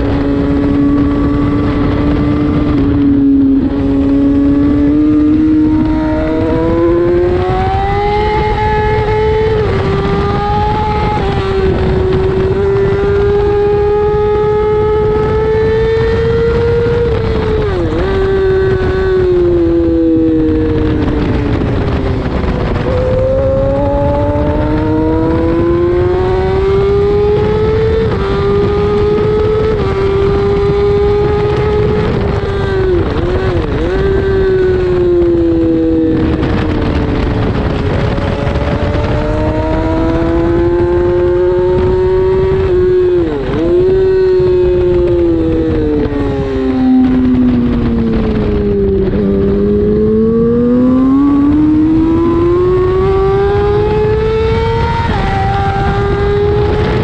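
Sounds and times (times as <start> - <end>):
motorcycle engine accelerating: 0.0 - 57.0
wind rushing: 0.0 - 57.0.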